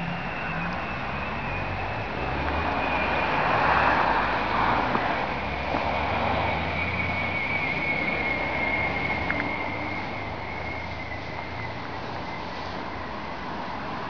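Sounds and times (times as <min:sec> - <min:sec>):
outdoor background noise: 0:00.0 - 0:14.0
thin high whine: 0:00.0 - 0:14.0.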